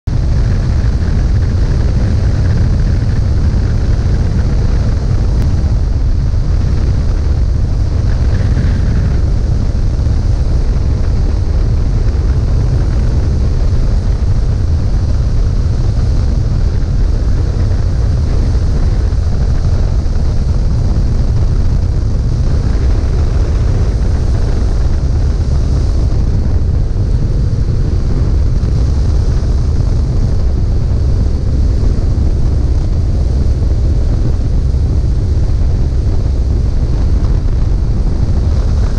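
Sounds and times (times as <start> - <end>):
aircraft engine rumble: 0.0 - 38.9.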